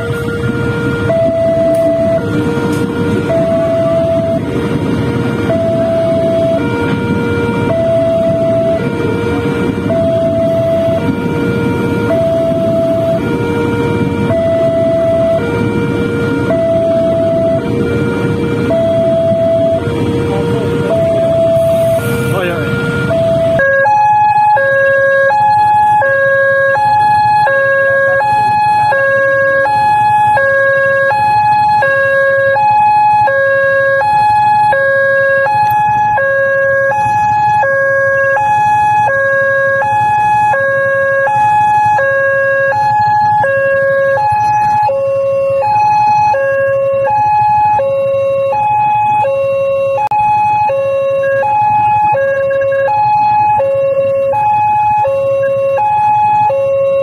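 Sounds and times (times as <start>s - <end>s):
idling motorcycles and cars: 0.0s - 57.0s
two-tone electronic crossing alarm: 0.0s - 57.0s.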